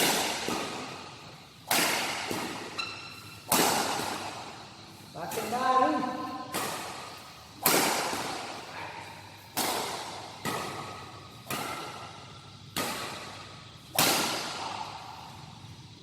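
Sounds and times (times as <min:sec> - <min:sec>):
rackets hitting shuttlecock: 0:00.0 - 0:15.4.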